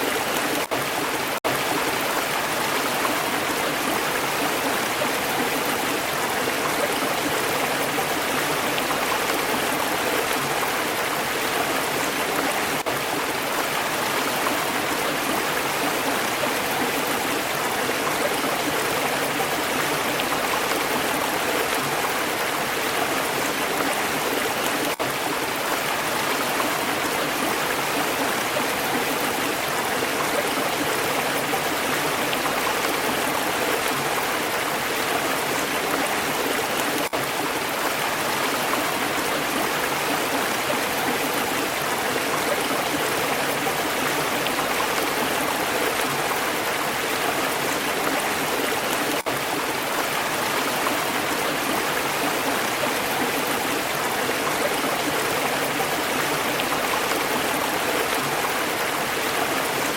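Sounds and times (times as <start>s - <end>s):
stream water flowing over rocks: 0.0s - 59.9s.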